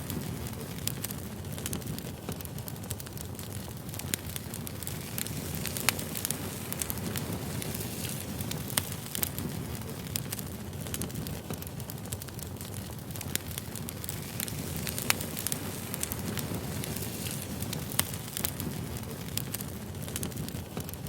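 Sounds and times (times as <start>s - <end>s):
firewood crackling and popping: 0.0s - 21.0s
low rumble of flames: 0.0s - 21.0s.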